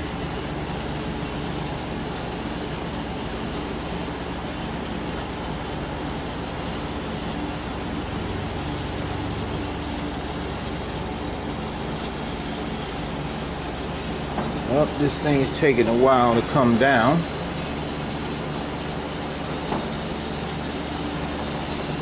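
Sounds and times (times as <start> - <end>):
vehicle lift mechanical drone: 0.0 - 22.0.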